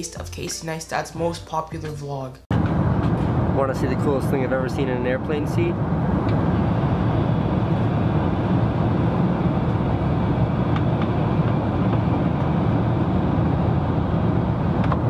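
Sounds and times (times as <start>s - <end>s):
airliner cabin engine drone: 2.5s - 15.0s.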